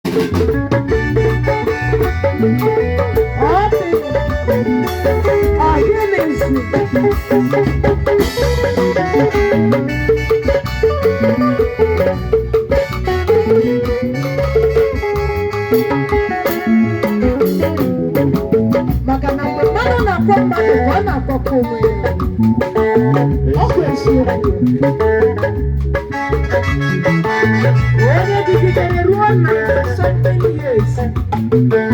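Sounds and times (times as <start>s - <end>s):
band music: 0.0s - 31.9s
drums keeping steady beat: 0.0s - 31.9s.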